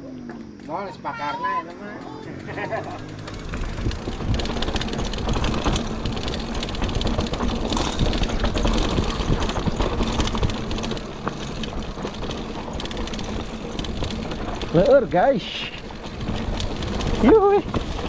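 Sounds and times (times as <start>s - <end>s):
bike rolling on dirt trail: 0.0s - 18.0s
bike clattering and rattling: 0.2s - 18.0s.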